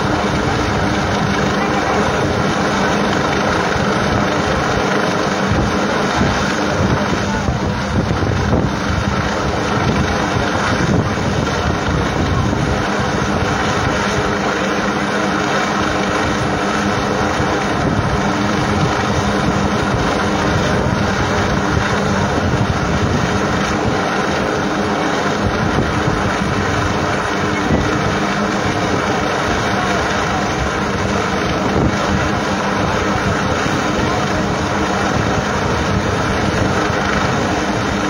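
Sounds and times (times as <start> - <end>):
helicopter rotor and engine drone: 0.0 - 38.0
wind buffeting microphone: 0.0 - 38.0.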